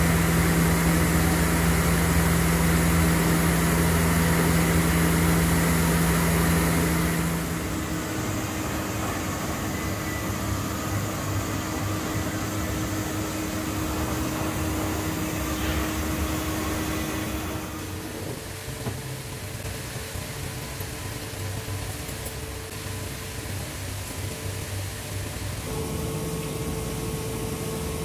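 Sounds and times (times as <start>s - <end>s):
milling machine hum with strong tone: 0.0s - 28.0s
quieter steady machine noise: 0.0s - 28.0s.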